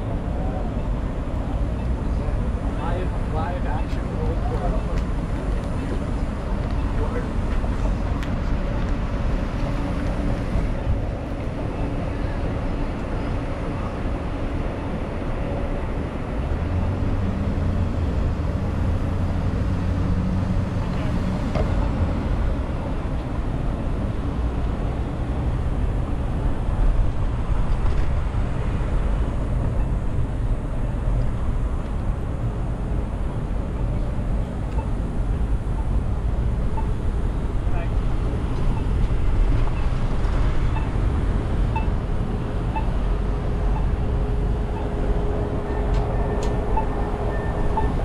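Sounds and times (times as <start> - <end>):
city street traffic noise: 0.0 - 48.0
vehicle engine humming: 0.0 - 48.0.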